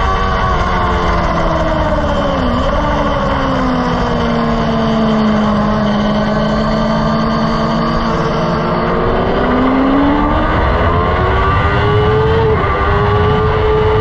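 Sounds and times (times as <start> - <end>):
race car engine: 0.0 - 14.0
wind noise: 0.0 - 14.0.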